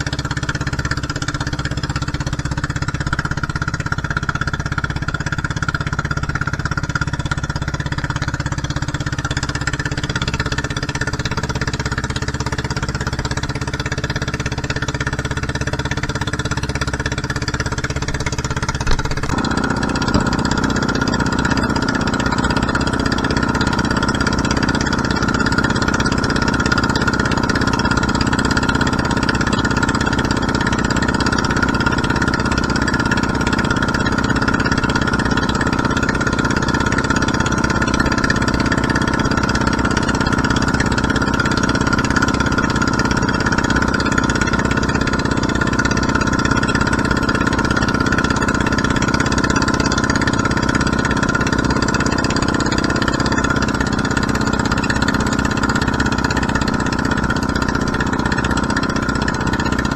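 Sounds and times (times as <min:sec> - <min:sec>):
boat engine pulsing: 0:00.0 - 0:59.9.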